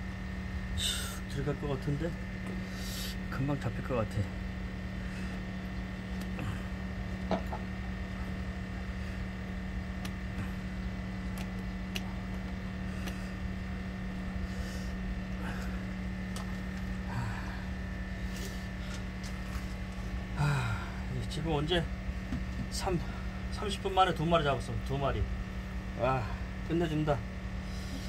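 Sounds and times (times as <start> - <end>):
machine hum: 0.0 - 28.0
thin high whine: 0.0 - 28.0.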